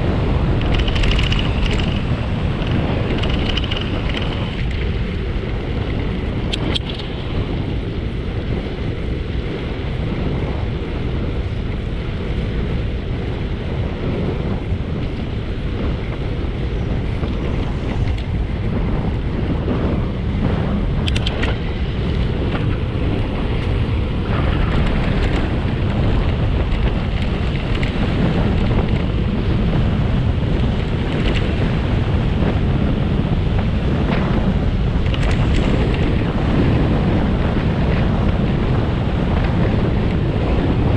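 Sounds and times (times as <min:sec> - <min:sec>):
low rumble: 0:00.0 - 0:40.9
wind buffeting microphone: 0:00.0 - 0:40.9.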